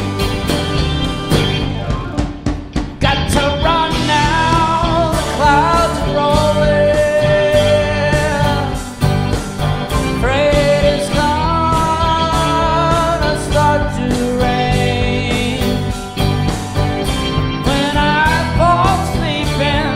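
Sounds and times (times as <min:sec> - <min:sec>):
live rock band playing: 0:00.0 - 0:19.9.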